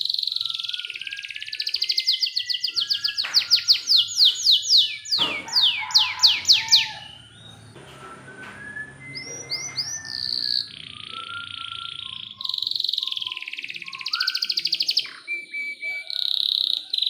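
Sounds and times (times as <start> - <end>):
canary singing: 0.0 - 17.0.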